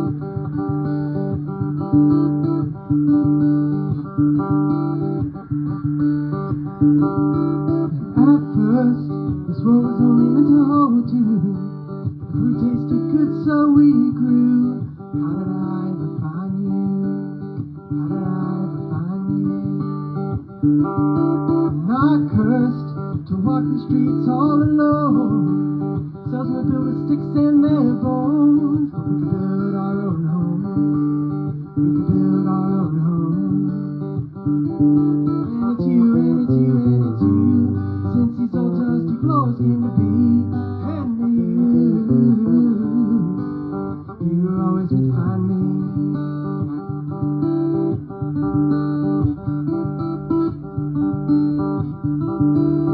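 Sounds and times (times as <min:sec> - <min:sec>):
acoustic guitar playing: 0:00.0 - 0:52.9.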